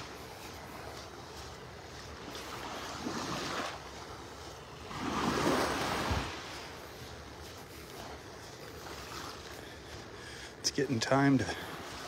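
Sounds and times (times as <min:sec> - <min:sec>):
waves lapping on sandy shore: 0:00.0 - 0:12.0.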